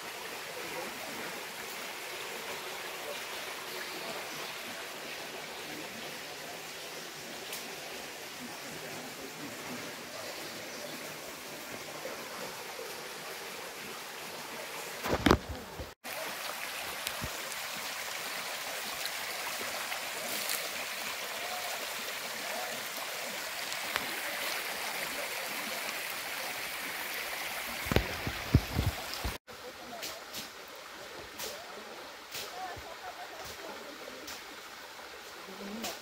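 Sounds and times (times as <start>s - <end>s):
stream splashing over rocks: 0.0s - 36.0s.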